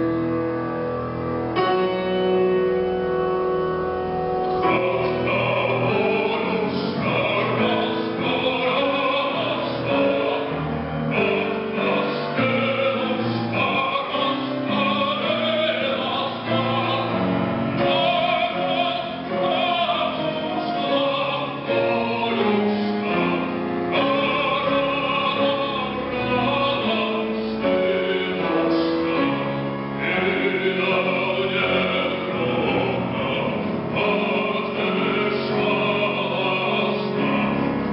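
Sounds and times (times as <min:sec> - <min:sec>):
musical accompaniment: 0:00.0 - 0:37.9
man singing operatically: 0:04.4 - 0:37.9.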